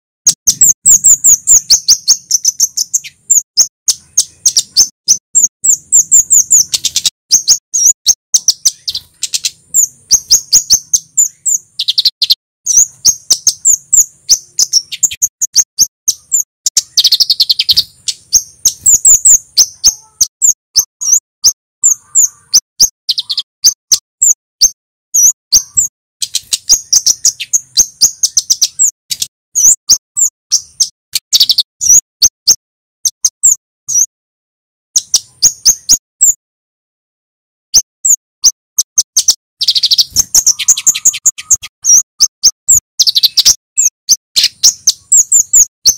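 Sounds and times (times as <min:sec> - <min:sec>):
bird calling sharp high notes: 0:00.3 - 0:34.1, 0:37.7 - 0:45.9.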